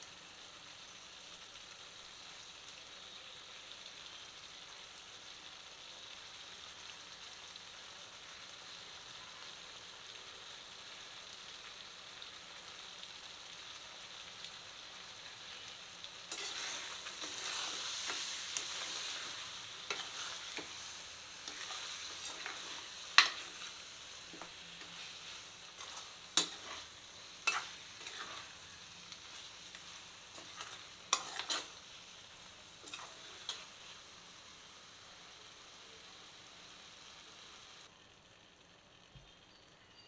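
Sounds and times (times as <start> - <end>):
meat sizzling in a frying pan: 0.0 - 39.6.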